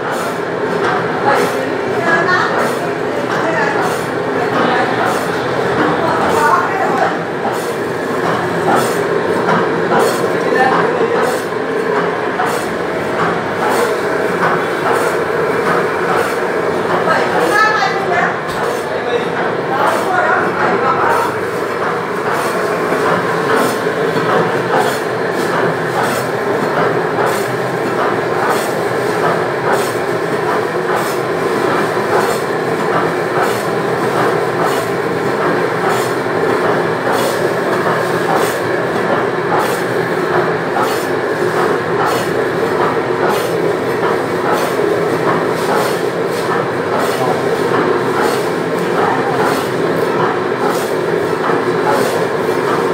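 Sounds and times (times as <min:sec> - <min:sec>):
slicing machine motor humming: 0:00.0 - 0:52.9.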